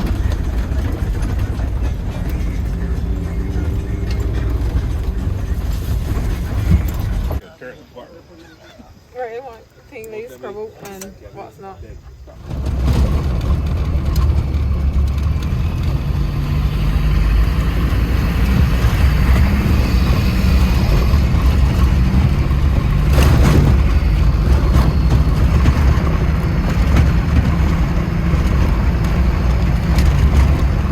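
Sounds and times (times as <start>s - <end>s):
off-road vehicle engine rumble: 0.0s - 7.5s, 11.8s - 30.9s.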